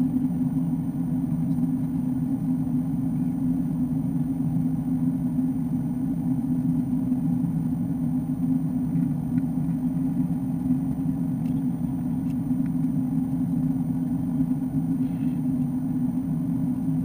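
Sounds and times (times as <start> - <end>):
airplane engine drone: 0.0 - 17.0.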